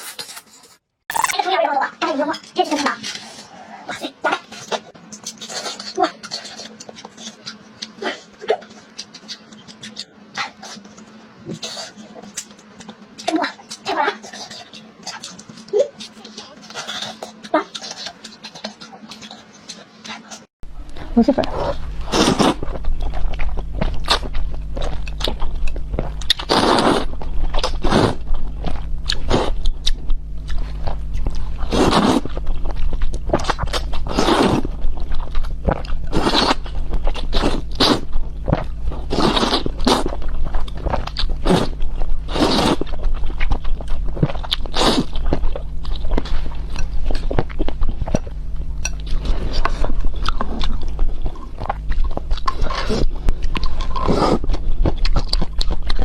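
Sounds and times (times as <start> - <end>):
chewing and crunching: 0.0 - 1.4, 2.8 - 56.0
steady low hum: 3.1 - 56.0.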